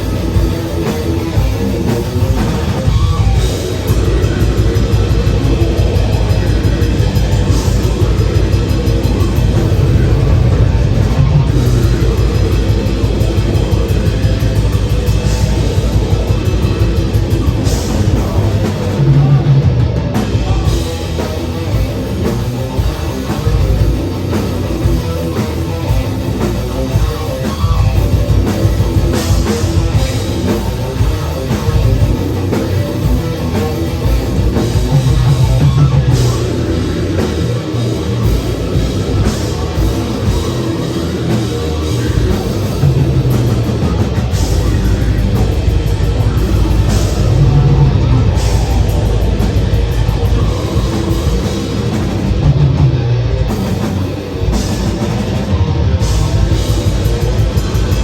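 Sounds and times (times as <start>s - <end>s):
death metal band playing live: 0.0s - 58.0s
fast drumming: 0.0s - 58.0s.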